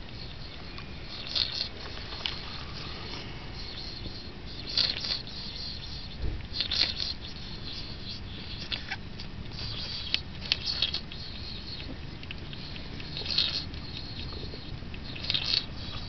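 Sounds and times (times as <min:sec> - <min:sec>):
hedgehog lapping water: 0:00.1 - 0:16.0.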